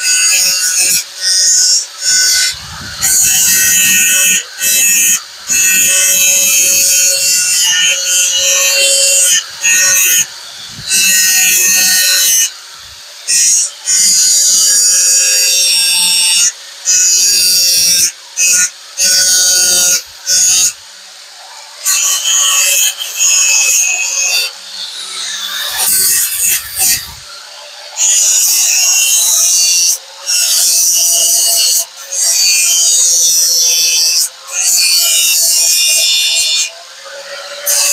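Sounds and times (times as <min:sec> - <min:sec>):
grinder rasping against metal: 0:00.0 - 0:37.9.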